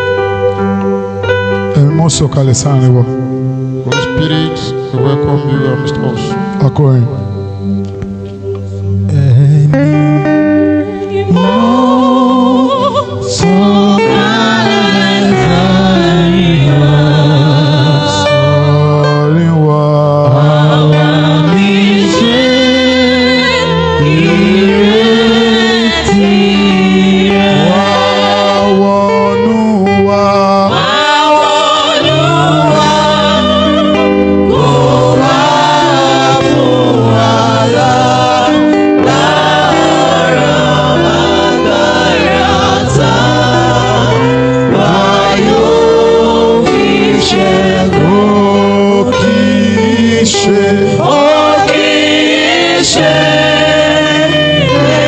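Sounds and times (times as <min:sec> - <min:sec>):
choir and congregation singing: 0:00.0 - 0:55.0
instrumental backing: 0:00.0 - 0:55.0.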